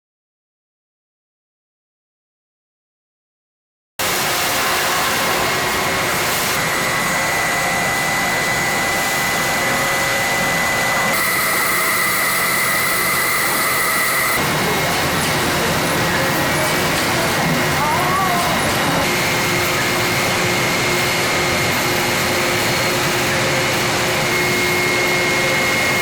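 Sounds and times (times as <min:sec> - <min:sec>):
machine noise with high whine: 0:04.0 - 0:26.0.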